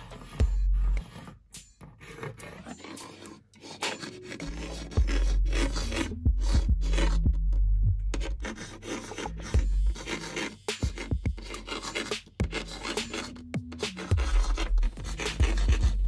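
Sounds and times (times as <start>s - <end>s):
paint marker scratching on wood: 0.0s - 7.4s, 8.1s - 16.0s.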